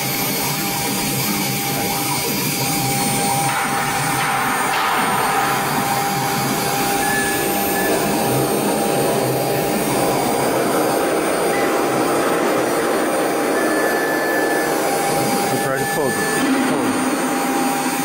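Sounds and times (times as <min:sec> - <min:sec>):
spindle motor whine: 0:00.0 - 0:18.0.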